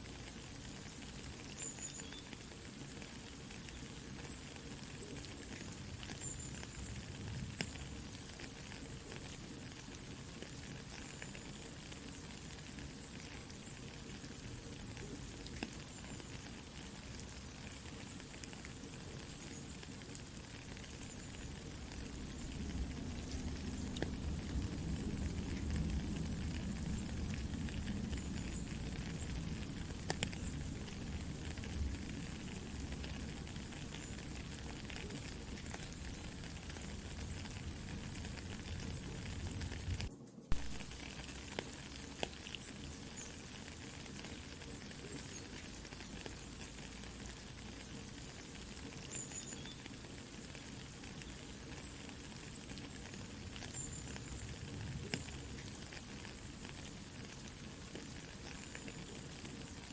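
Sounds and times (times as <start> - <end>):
campfire crackling and popping: 0.0 - 59.9
soft rain hiss: 0.0 - 59.9.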